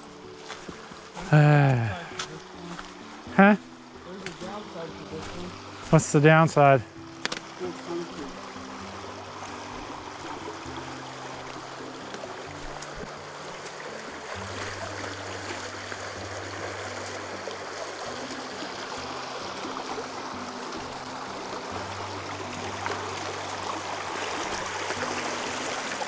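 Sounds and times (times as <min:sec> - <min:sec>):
creek water rushing: 0:00.0 - 0:26.0
music of low held notes: 0:00.0 - 0:26.0.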